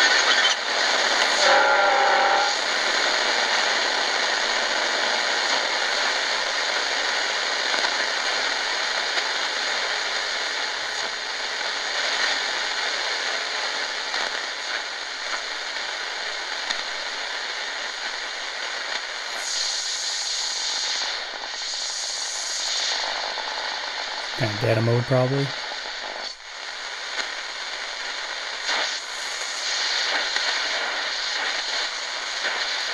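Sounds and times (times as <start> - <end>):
radio static hiss: 5.4 - 32.9.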